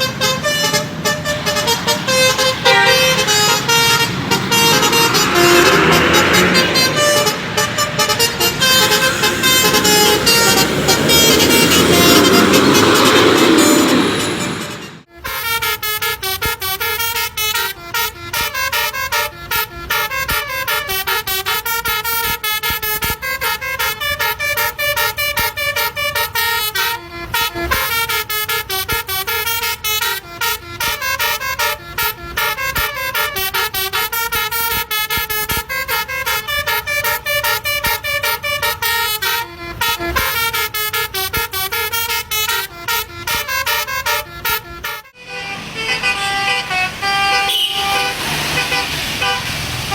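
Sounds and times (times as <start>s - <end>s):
musical bus horn playing tune: 0.0s - 49.9s.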